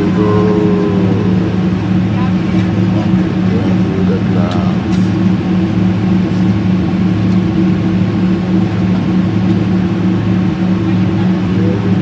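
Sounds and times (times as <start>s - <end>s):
jet engines droning: 0.0s - 12.0s
low even hum: 0.0s - 12.0s.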